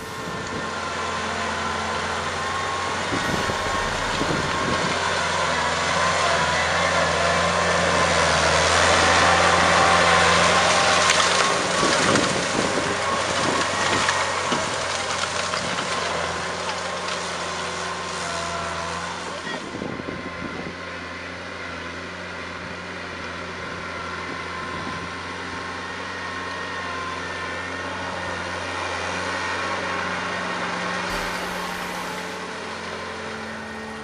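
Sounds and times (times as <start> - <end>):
tractor engine running under load: 0.0 - 34.0.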